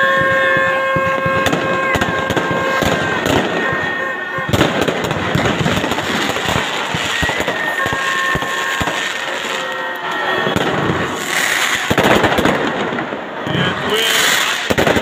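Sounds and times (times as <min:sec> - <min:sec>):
firecrackers crackling: 0:00.0 - 0:15.0
fireworks bangs: 0:00.0 - 0:15.0.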